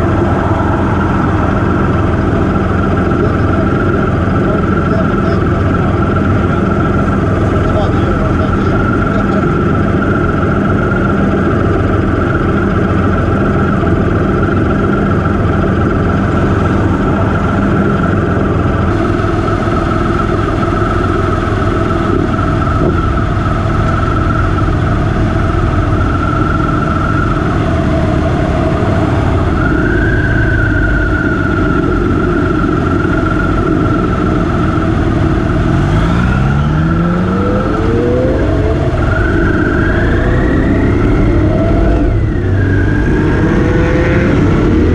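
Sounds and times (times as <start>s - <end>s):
motorcycle engine running and revving: 0.0s - 44.9s.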